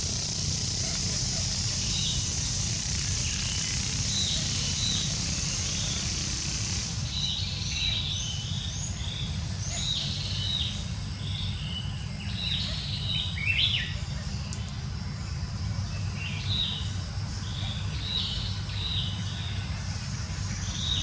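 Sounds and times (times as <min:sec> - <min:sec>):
birds chirping: 0:00.0 - 0:21.0
insect hiss: 0:00.0 - 0:21.0.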